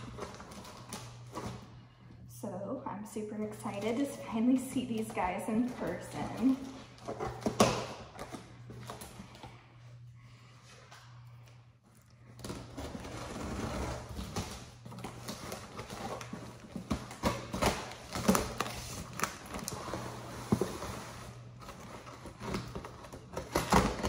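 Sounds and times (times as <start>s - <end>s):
cardboard and plastic rustling: 0.0s - 2.1s, 3.5s - 9.7s, 12.3s - 24.0s
steady low hum: 0.0s - 24.0s.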